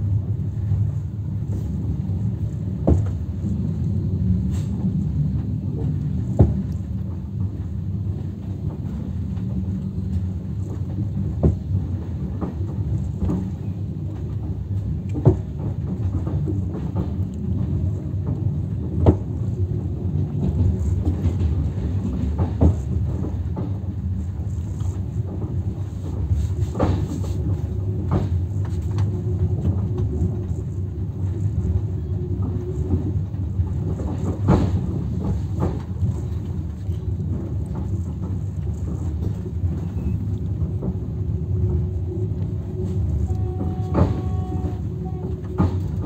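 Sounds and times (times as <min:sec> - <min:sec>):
vehicle rumbling in motion: 0:00.0 - 0:46.0.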